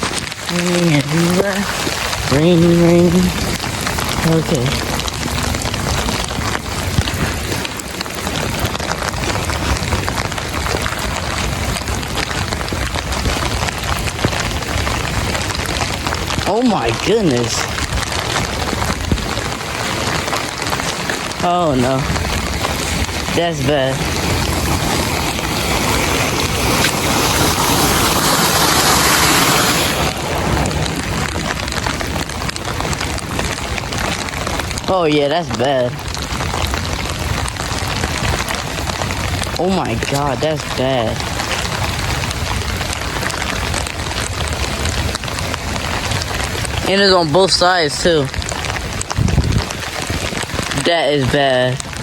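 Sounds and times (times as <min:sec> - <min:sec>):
wind buffeting microphone: 0:00.0 - 0:34.9, 0:35.9 - 0:52.0
close raindrop hits: 0:00.0 - 0:52.0
heavy rain falling: 0:00.0 - 0:52.0
rushing floodwater: 0:00.0 - 0:52.0.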